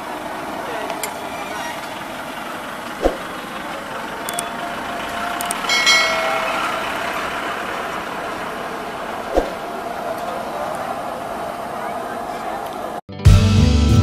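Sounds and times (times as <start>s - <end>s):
street traffic: 0.0s - 13.1s.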